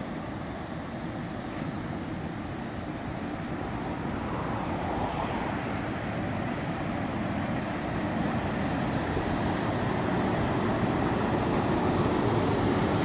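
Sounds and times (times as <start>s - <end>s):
locomotives passing: 1.4s - 13.0s
wheels rumbling on rails: 2.5s - 13.0s.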